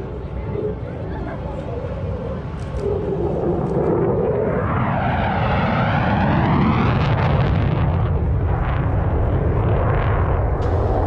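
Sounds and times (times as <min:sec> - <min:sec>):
military jet low pass: 0:00.0 - 0:11.0.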